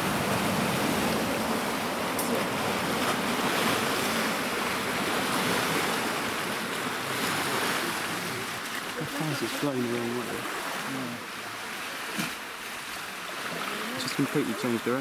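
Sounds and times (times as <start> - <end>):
turbulent river water rushing: 0.0 - 15.0.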